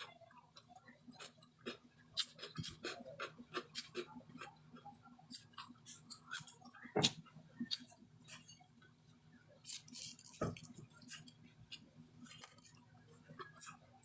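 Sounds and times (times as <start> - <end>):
chewing crunchy vegetables: 0.0 - 8.7, 9.6 - 14.0.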